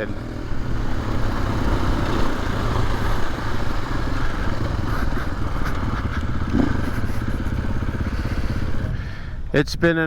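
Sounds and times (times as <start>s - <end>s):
dirt bike engine running: 0.0s - 9.6s.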